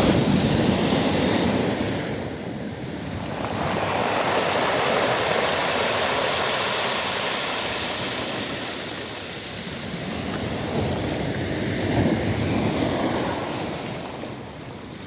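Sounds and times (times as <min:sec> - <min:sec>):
waves washing over pebbles: 0:00.0 - 0:15.0.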